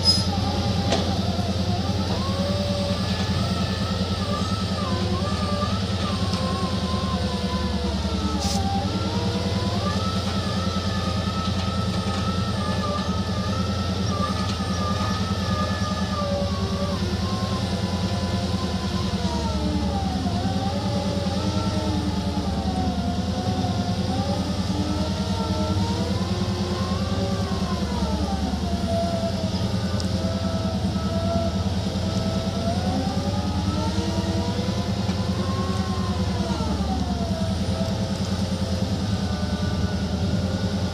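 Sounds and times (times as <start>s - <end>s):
excavator diesel engine running: 0.0s - 40.9s
wavering high whine: 0.0s - 40.9s.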